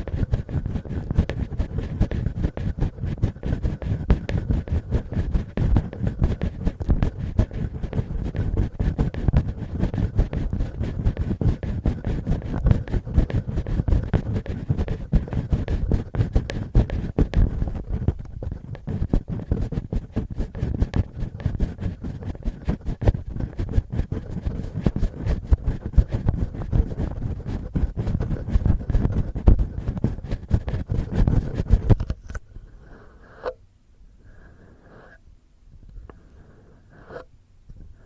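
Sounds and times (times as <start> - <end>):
fingernails scratching microphone: 0.0 - 32.4, 36.1 - 38.0.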